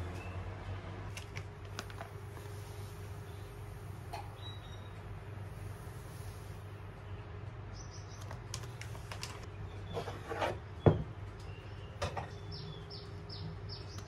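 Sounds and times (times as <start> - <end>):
birds chirping: 2.4 - 14.0.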